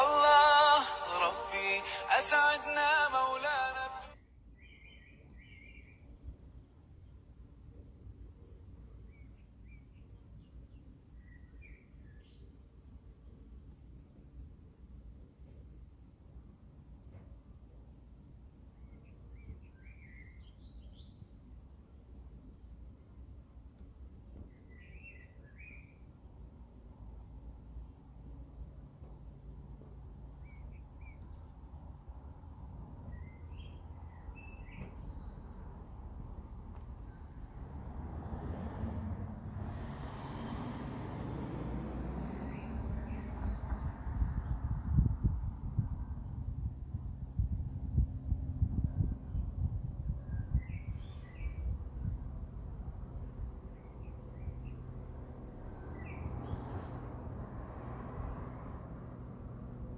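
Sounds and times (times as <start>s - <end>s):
songbirds chirping: 0.0s - 13.8s, 17.0s - 46.4s, 49.2s - 57.4s.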